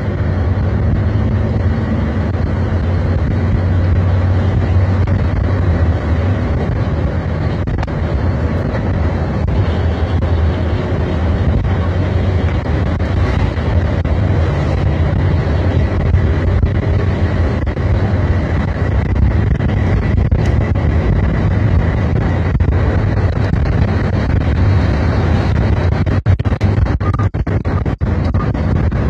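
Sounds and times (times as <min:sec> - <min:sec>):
bus engine drone: 0:00.0 - 0:29.0
road rumble: 0:00.0 - 0:29.0.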